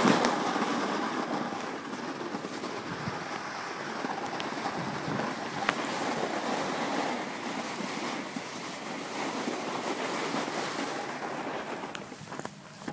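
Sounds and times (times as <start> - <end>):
skis scraping on packed snow: 0.0 - 12.9.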